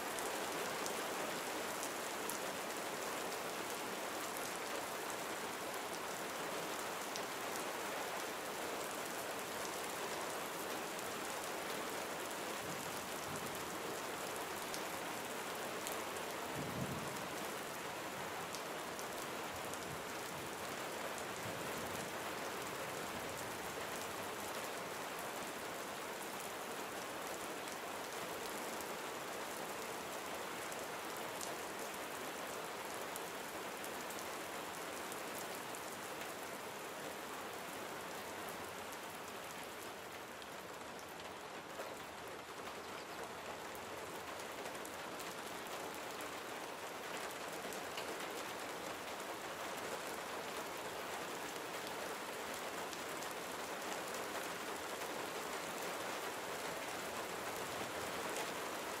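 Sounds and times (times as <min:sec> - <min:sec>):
gentle rain falling: 0:00.0 - 0:59.0.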